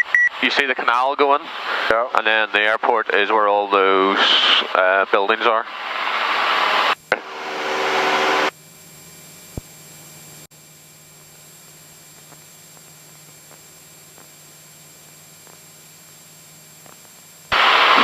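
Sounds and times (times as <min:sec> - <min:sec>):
faint steady hum: 0:00.0 - 0:18.0
aircraft engine drone: 0:00.3 - 0:18.0.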